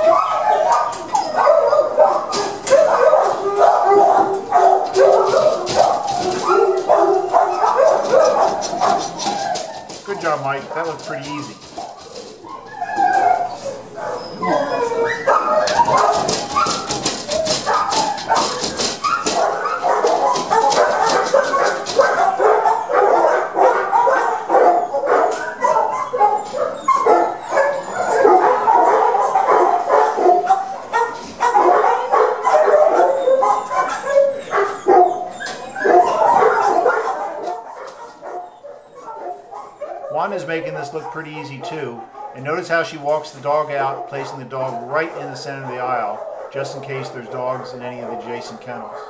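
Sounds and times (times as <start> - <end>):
dogs barking and whining: 0.0 - 49.0.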